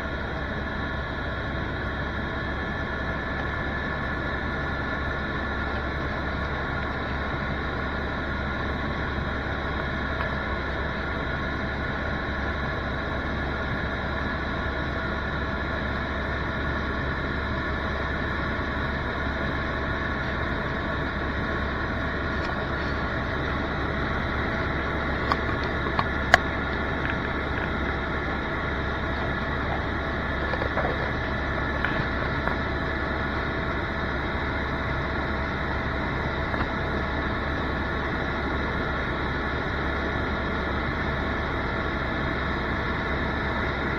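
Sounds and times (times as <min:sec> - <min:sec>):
helicopter engine and rotor drone: 0:00.0 - 0:43.9.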